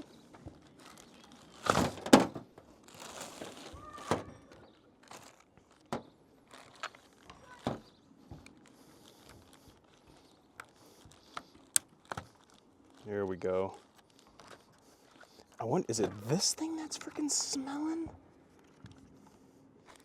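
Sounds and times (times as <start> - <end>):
rustling: 0.0 - 20.0.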